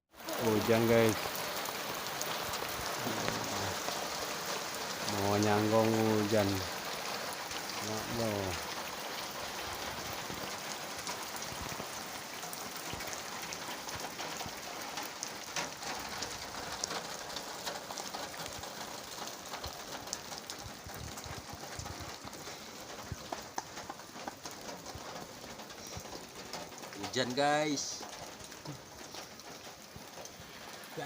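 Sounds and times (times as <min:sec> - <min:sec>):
raindrops ticking on surfaces: 0:00.1 - 0:31.0
steady rainfall: 0:00.1 - 0:31.0.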